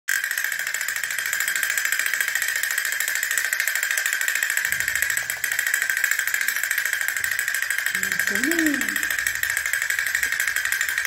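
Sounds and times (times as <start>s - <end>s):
toy motor buzzing: 0.1s - 11.0s.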